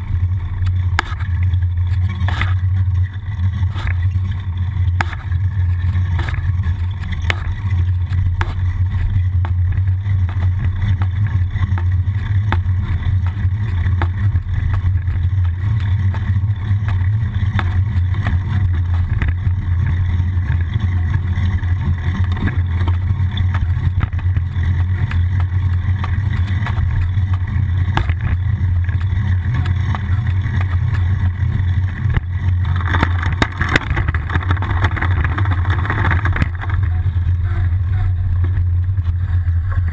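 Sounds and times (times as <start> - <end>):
bicycle knocks and rattles: 0.0 - 39.9
wind and road rumble: 0.0 - 39.9.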